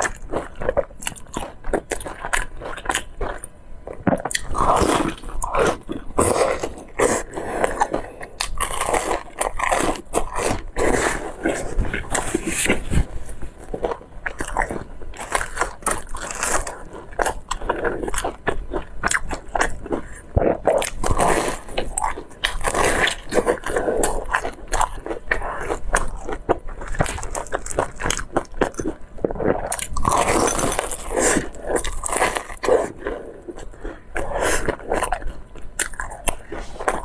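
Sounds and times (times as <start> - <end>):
crunchy fried bread chewing: 0.0 - 37.0.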